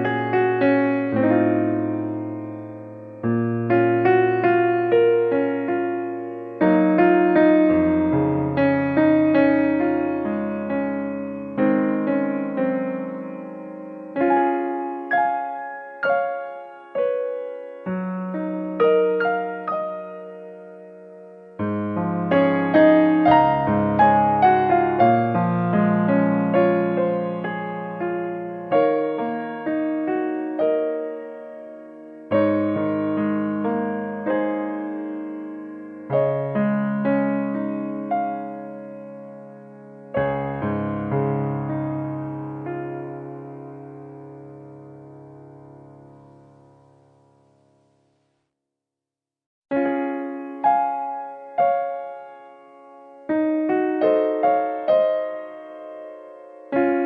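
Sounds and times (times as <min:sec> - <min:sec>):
gentle piano music: 0:00.0 - 0:48.2, 0:49.7 - 0:57.0.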